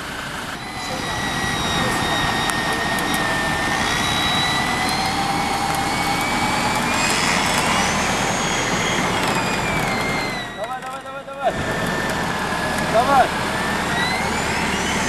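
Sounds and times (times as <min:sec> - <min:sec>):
engine running: 0:00.0 - 0:15.0
winch whining under load: 0:00.0 - 0:15.0.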